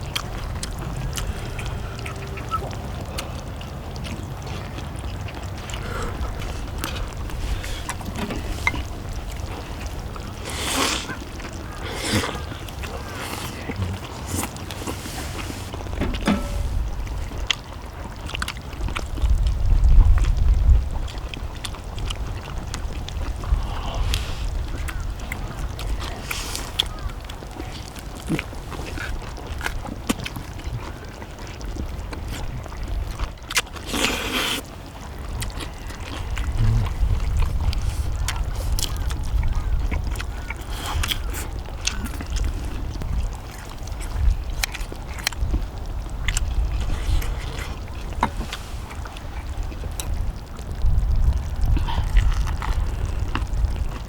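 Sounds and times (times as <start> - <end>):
wind rumble on microphone: 0.0 - 34.0, 34.6 - 54.0
chewing: 0.0 - 54.0.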